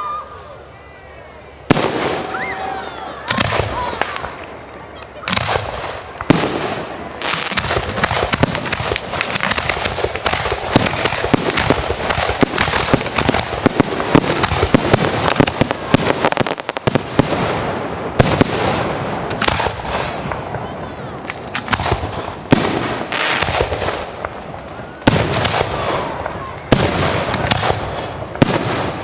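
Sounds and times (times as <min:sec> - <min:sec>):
fireworks crackling and popping: 0:01.4 - 0:29.0
fireworks bangs: 0:01.5 - 0:29.0.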